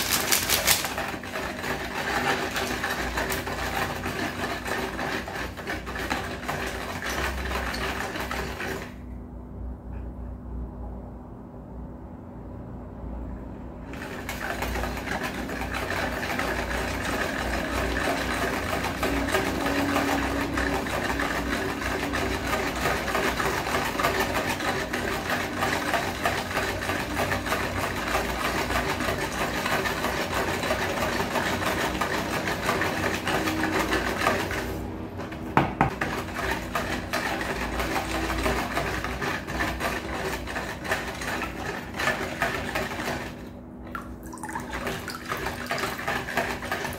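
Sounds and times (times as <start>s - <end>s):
wire whisk clattering against tub: 0.0s - 8.9s, 14.0s - 43.4s, 44.4s - 46.9s.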